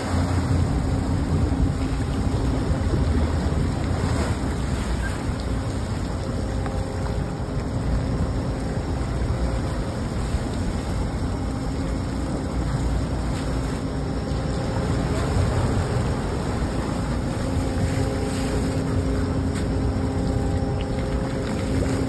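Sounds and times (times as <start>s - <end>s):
boat engines humming: 0.0s - 22.0s
water rushing along hull: 0.0s - 22.0s.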